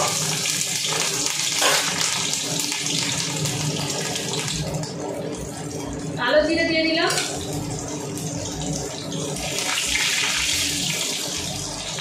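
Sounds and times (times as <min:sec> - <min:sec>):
chillies sizzling in hot oil: 0:00.0 - 0:12.0.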